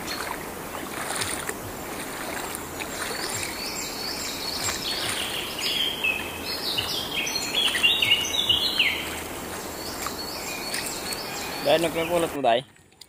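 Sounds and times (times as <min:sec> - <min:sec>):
shallow stream hissing: 0:00.0 - 0:12.6
birds chirping: 0:00.0 - 0:12.8.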